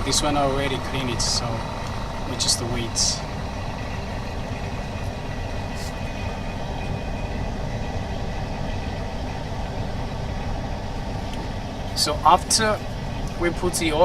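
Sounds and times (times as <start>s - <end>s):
laminating machine humming: 0.0s - 14.0s.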